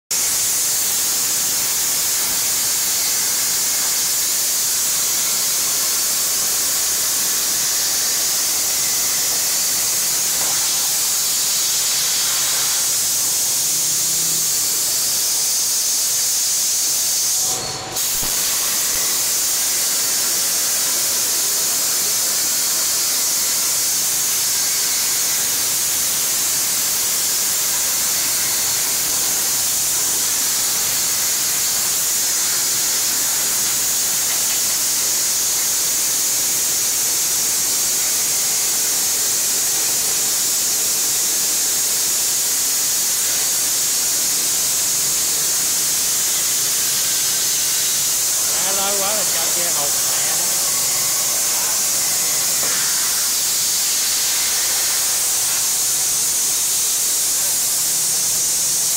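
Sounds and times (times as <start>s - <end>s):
plasma cutter torch hissing: 0.1s - 58.9s.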